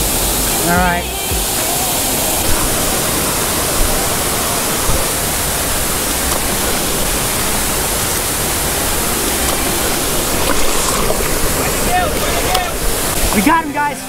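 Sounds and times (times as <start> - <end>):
flowing water rushing: 0.0 - 14.0
water splashing in shallows: 0.0 - 14.0.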